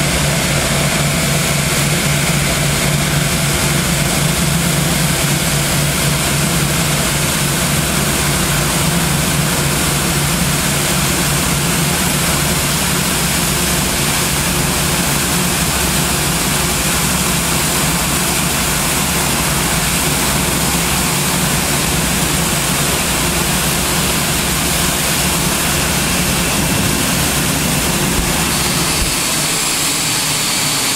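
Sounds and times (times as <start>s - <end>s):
jet engines idling: 0.0s - 30.9s.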